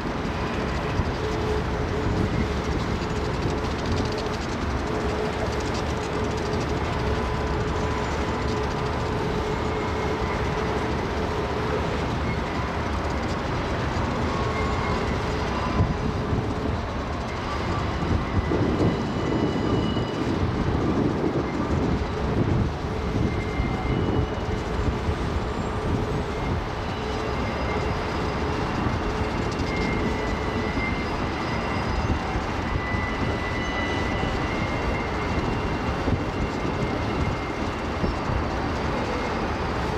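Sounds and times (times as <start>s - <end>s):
steel wheels rumbling on rail: 0.0s - 39.9s
high-pitched wheel squeals: 0.1s - 39.9s.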